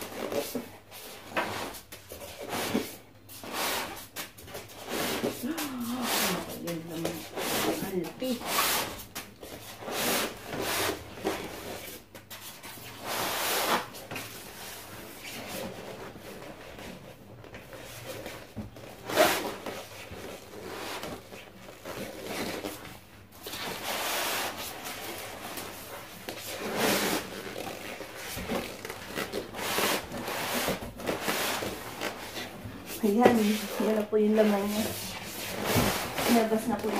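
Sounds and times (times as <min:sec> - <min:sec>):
styrofoam scraping against cardboard: 0:00.0 - 0:17.0, 0:17.7 - 0:36.9.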